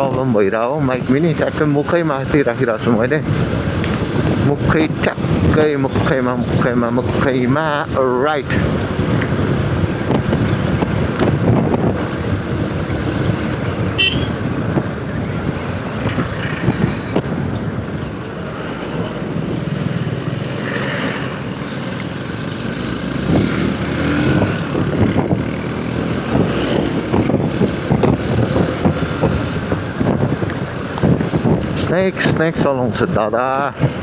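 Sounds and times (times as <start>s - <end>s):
passing traffic: 0.0s - 34.0s
wind: 0.0s - 34.0s.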